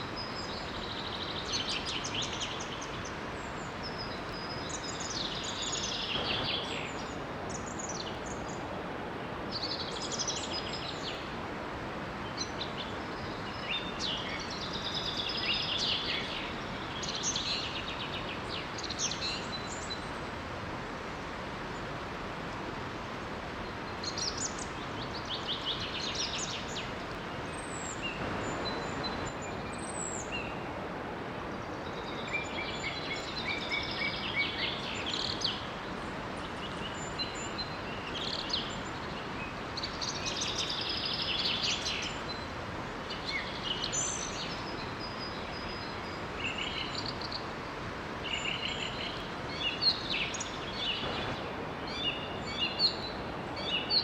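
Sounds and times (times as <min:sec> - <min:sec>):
songbirds singing and chirping: 0:00.0 - 0:54.0
water rushing from waterfall: 0:00.0 - 0:54.0.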